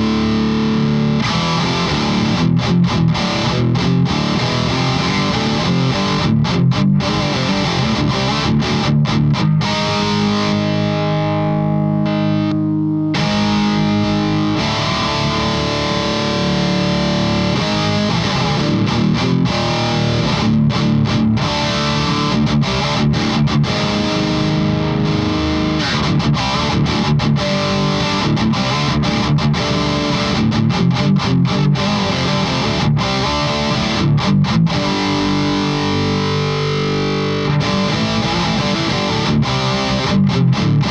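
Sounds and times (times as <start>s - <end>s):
distorted electric guitar riffing: 0.0s - 40.9s.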